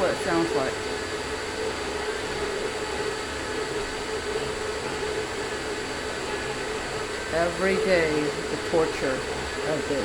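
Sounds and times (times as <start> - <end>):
steady mechanical rushing hum: 0.0 - 10.0.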